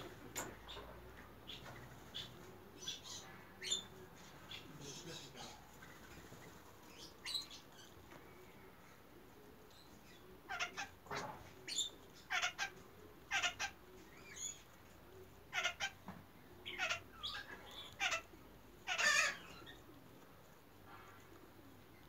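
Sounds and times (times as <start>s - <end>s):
lories chattering: 0.0s - 22.0s.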